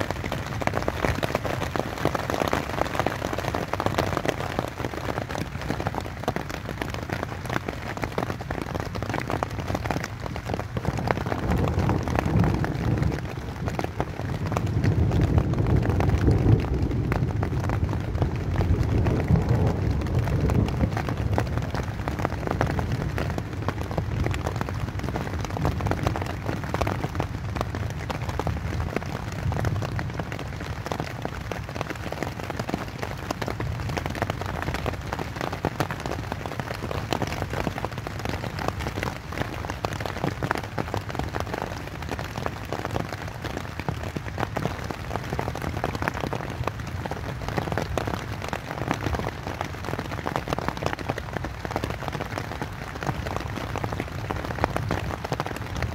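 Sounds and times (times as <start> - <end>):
rain pattering on tent fabric: 0.0 - 55.9.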